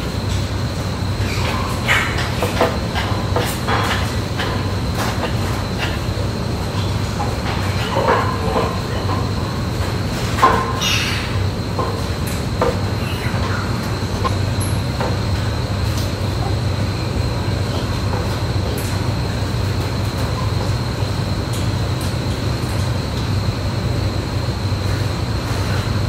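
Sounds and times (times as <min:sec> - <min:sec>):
ventilation fans humming: 0:00.0 - 0:26.0.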